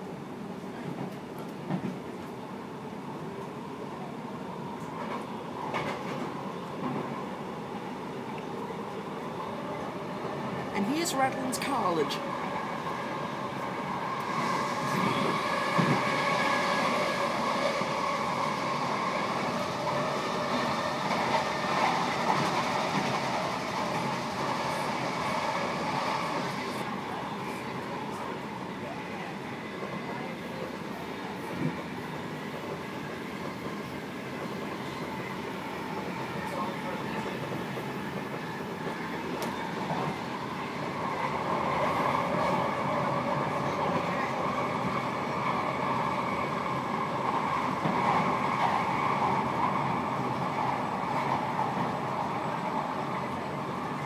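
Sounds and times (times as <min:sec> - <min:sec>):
train wheels rumbling on track: 0:00.0 - 0:54.0
train whine: 0:00.0 - 0:54.0.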